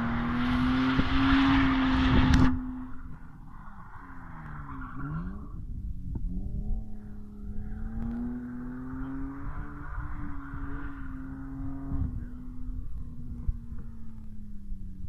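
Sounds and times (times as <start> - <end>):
distant car engine revving: 0.0 - 14.6.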